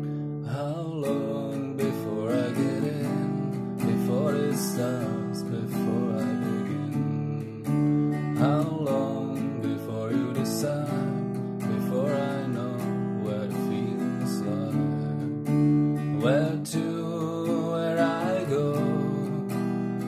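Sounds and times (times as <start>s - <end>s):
acoustic guitar chords: 0.0s - 20.0s
man singing: 0.4s - 15.4s, 16.0s - 19.8s.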